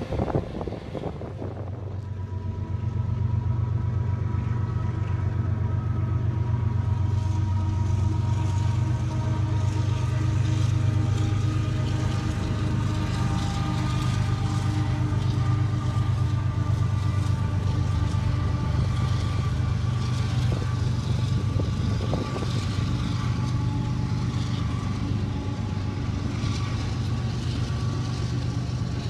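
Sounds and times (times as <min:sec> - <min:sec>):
locomotive engines droning: 0:00.0 - 0:29.0.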